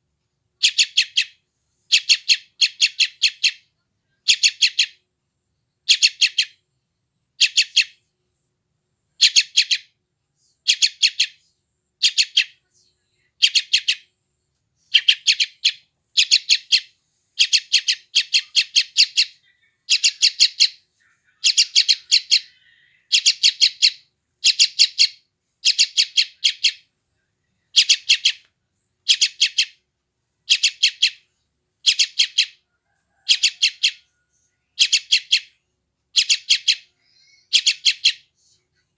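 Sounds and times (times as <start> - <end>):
bird chick chirping: 0.6 - 3.6, 4.2 - 5.0, 5.8 - 6.6, 7.4 - 8.0, 9.2 - 11.4, 12.0 - 12.6, 13.4 - 14.1, 14.9 - 26.9, 27.6 - 38.3.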